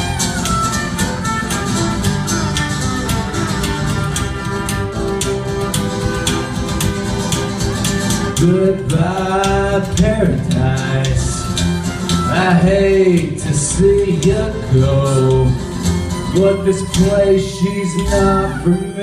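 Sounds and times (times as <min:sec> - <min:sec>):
steady drum beat: 0:00.0 - 0:18.4
bass: 0:00.0 - 0:19.0
lead melody with held notes: 0:00.0 - 0:19.0
rhythm guitar: 0:00.0 - 0:19.0.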